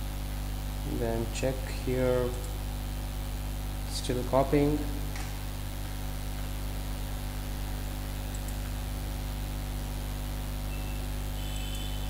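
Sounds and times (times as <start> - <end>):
electrical hum with hiss: 0.0 - 12.0.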